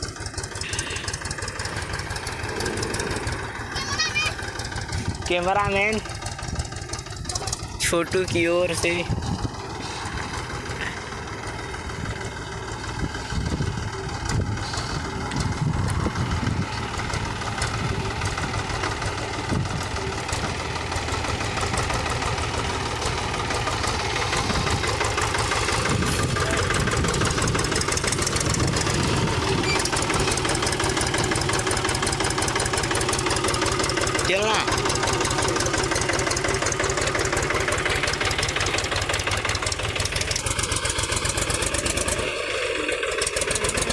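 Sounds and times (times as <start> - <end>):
tractor diesel engine knocking: 0.0 - 43.9.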